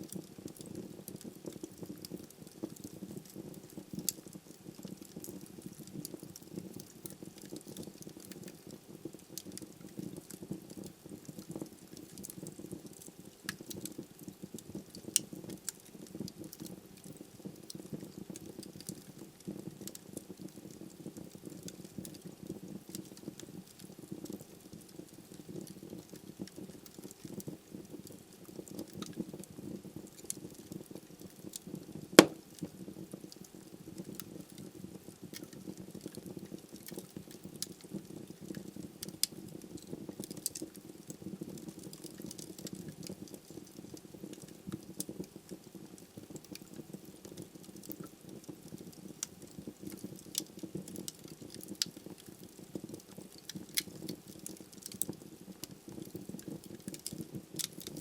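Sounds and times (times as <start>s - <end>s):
logs crackling and popping: 0.0s - 58.0s.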